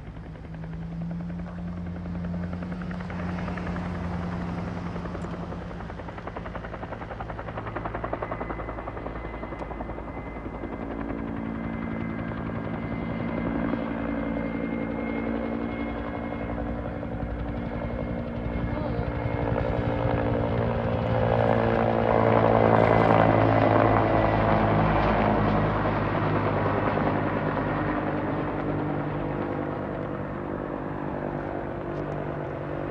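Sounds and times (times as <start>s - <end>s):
helicopter engine hum: 0.0s - 32.9s
helicopter rotor blades chopping: 0.0s - 32.9s.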